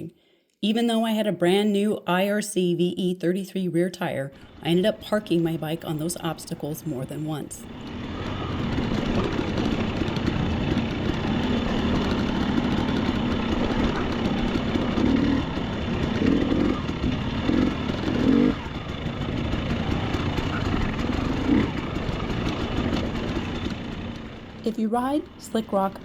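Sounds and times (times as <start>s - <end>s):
dirt bike engine revving: 4.3s - 26.0s.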